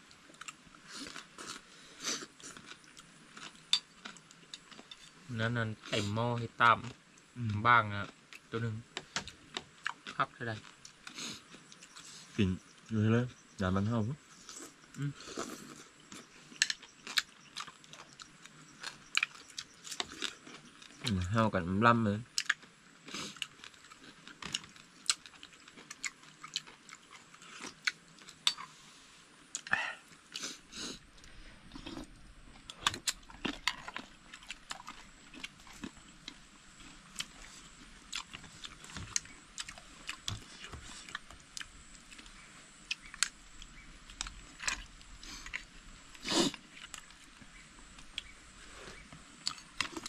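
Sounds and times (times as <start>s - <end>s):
person chewing: 0.1s - 6.2s, 6.8s - 12.4s, 14.3s - 21.3s, 22.3s - 50.0s.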